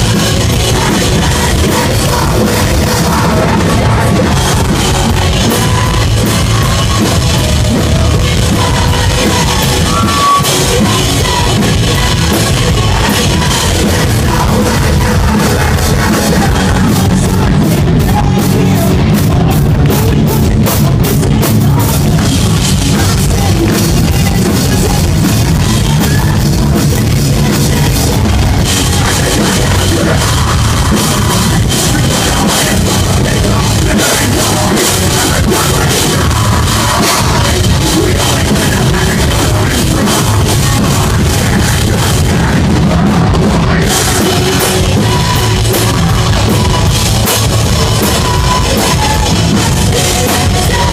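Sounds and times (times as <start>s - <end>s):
heavy guitars and bass: 0.0s - 50.9s
pounding drum kit: 0.0s - 50.9s.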